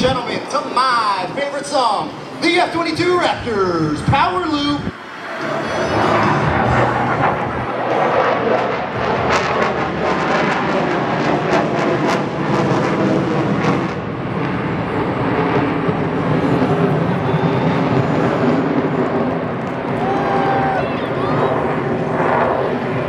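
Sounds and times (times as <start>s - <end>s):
loud jet noise: 0.0s - 23.0s.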